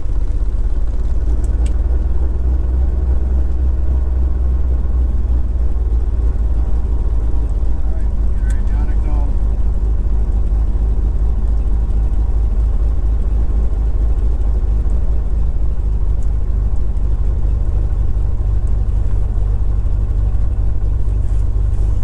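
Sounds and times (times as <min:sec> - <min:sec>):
propeller plane engine idling: 0:00.0 - 0:22.0.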